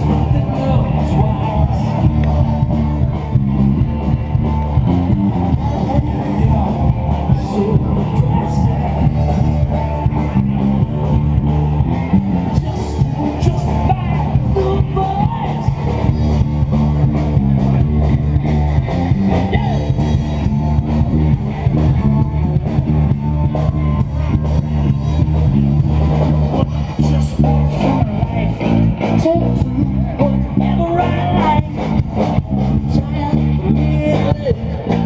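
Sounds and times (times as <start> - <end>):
bass line: 0.0 - 35.0
electric guitars: 0.0 - 35.0
live heavy metal band: 0.0 - 35.0.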